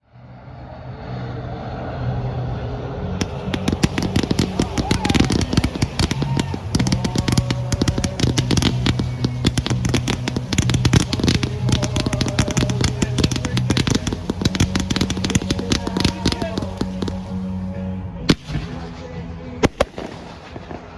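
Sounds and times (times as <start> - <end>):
fireworks crackling pops: 3.2 - 20.9.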